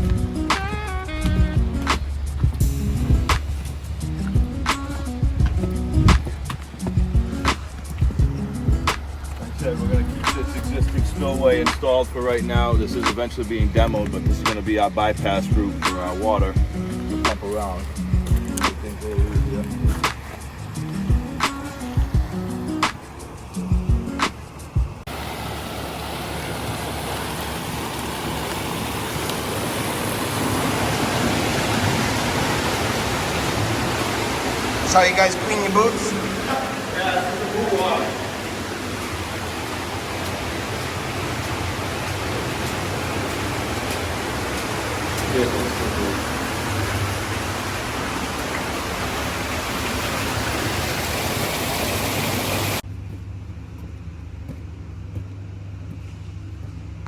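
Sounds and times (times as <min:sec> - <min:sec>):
flowing water rushing: 0:00.0 - 0:52.9
low engine hum: 0:00.0 - 0:57.0.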